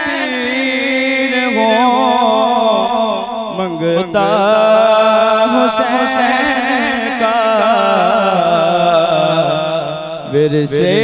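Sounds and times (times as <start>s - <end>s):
man chanting devotional verse: 0.0s - 11.0s.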